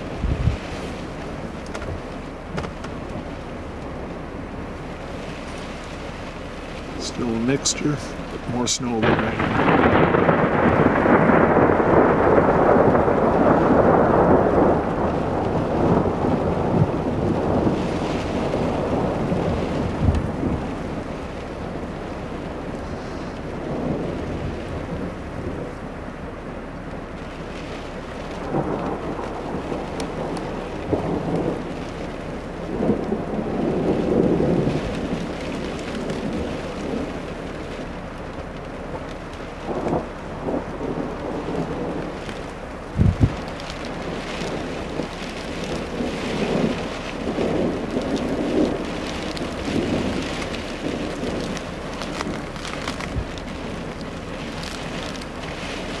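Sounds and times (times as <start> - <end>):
rain and snow pattering: 0.0 - 56.0
rolling thunder: 0.0 - 56.0.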